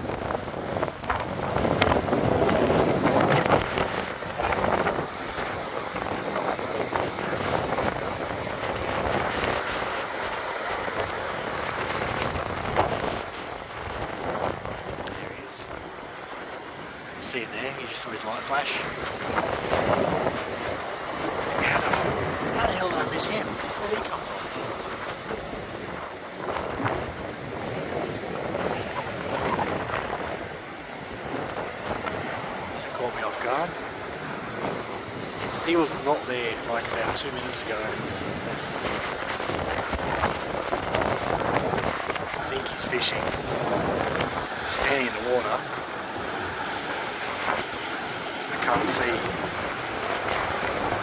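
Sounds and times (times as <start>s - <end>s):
surf washing on beach: 0.0s - 51.0s
wind buffeting microphone: 0.0s - 51.0s.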